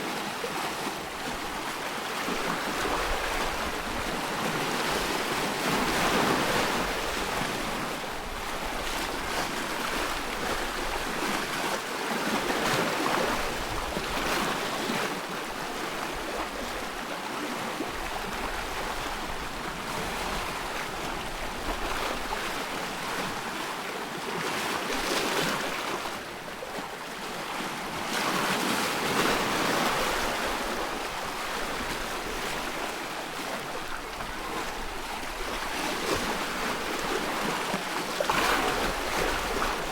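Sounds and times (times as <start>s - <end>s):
waves lapping and splashing: 0.0s - 39.9s
wind: 0.0s - 39.9s.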